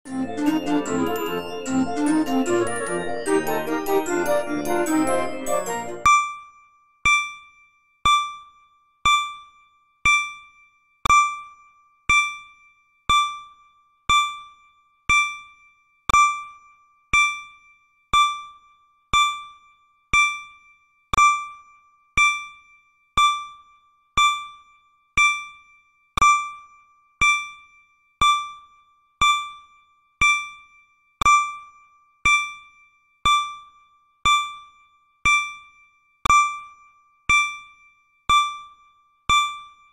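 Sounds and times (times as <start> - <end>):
electronic timer ding: 0.1 - 39.9.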